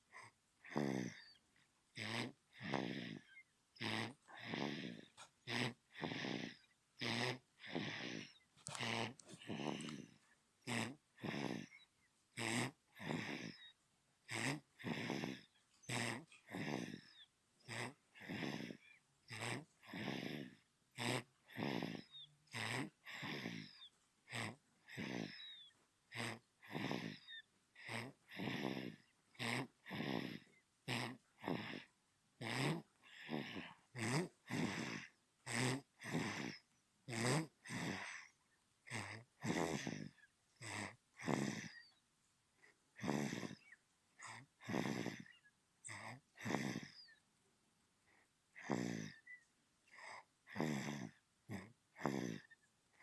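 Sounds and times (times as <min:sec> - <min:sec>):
baby snoring: 0:00.1 - 0:42.0, 0:42.9 - 0:47.2, 0:48.1 - 0:53.0.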